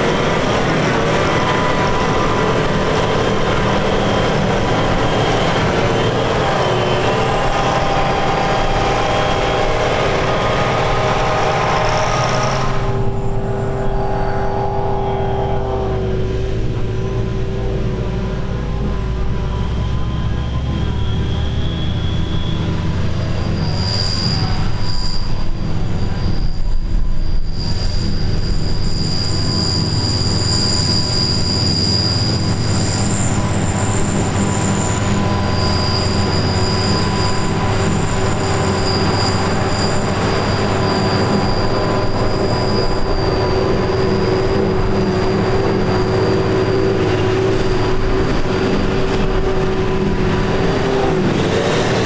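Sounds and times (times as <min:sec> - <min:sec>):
tractor engine running: 0:00.0 - 0:24.4, 0:25.4 - 0:52.0
high-pitched machinery whine: 0:00.0 - 0:52.0.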